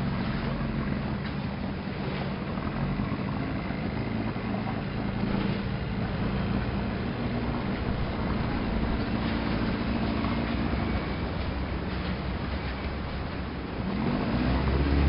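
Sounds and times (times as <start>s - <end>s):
boat engine droning: 0.0s - 15.0s
water: 0.0s - 15.0s.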